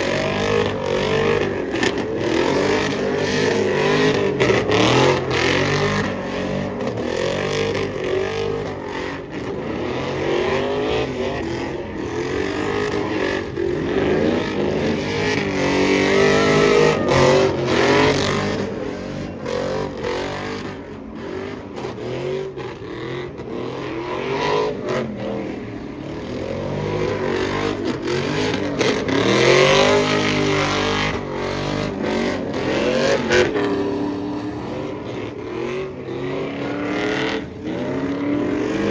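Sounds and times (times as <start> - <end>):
pickup engine revving: 0.0 - 38.9.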